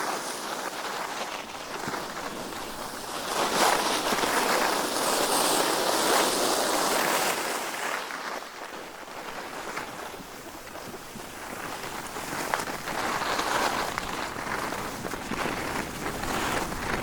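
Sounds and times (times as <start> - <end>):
skis scraping over snow: 0.0 - 17.0.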